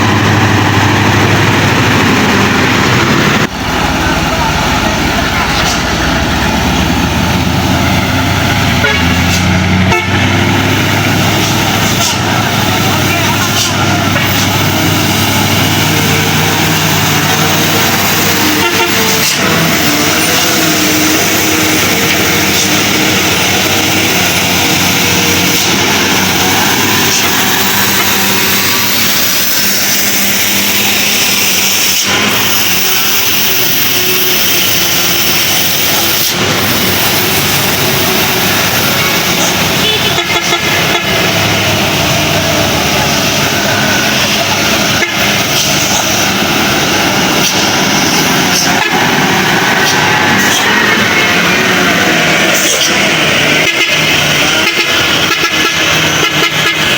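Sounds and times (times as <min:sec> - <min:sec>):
truck and road traffic: 0:00.0 - 0:56.9
vehicle horns honking: 0:08.1 - 0:46.4, 0:47.4 - 0:56.9.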